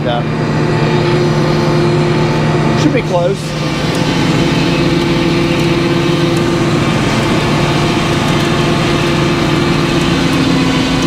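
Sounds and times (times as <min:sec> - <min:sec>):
power unit running: 0:00.0 - 0:11.0
circular saw blade cutting log: 0:00.8 - 0:11.0.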